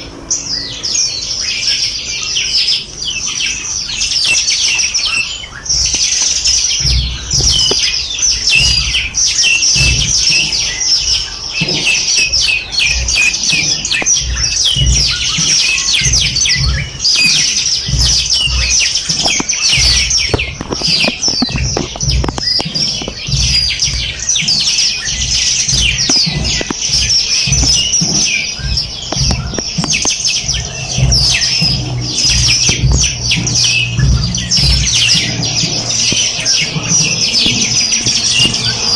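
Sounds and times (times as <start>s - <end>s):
low rumbling thumps: 0.0s - 38.9s
songbirds chirping: 0.0s - 38.9s.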